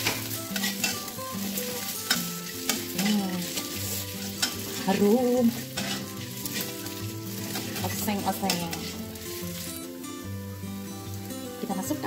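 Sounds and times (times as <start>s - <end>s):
spatula scraping and tapping wok: 0.0s - 10.0s
oil sizzling: 0.0s - 12.0s.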